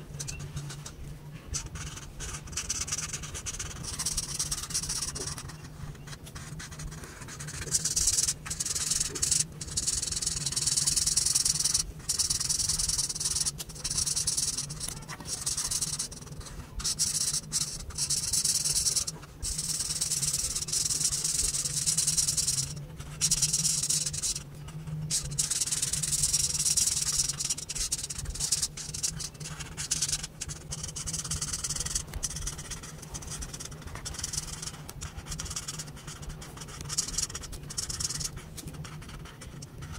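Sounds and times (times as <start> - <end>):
marker scratching on paper: 0.0 - 39.9.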